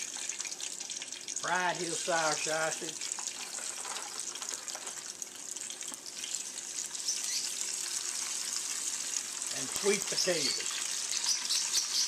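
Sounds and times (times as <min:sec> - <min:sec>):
sausage sizzling in hot oil: 0:00.0 - 0:12.0.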